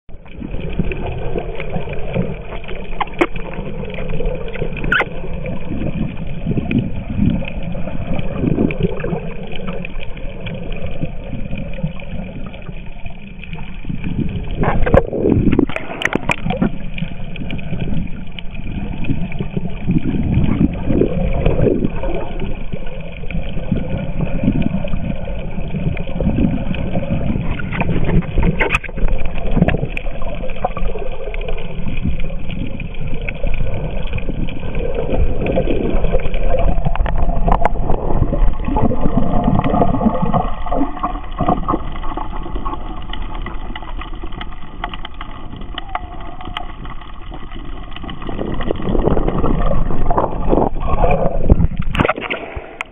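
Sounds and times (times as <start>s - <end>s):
underwater rumble of moving water: 0.1s - 52.9s.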